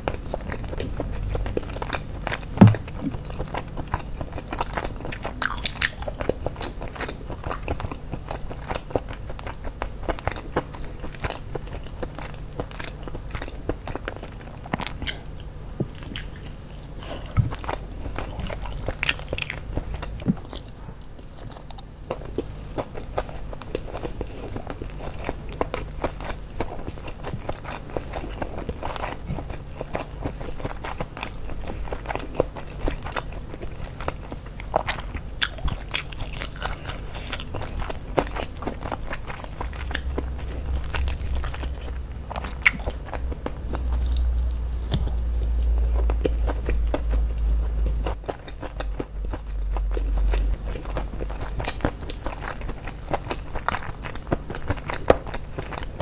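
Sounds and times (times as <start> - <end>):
chewing and crunching fried chicken: 0.0 - 56.0.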